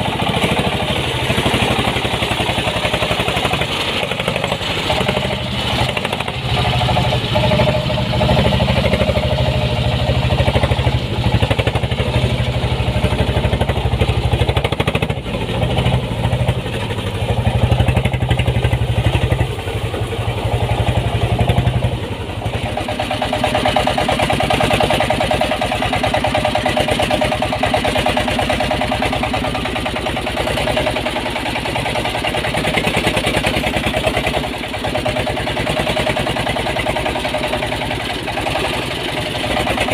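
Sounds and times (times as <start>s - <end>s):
small diesel engine chugging: 0.0s - 39.9s.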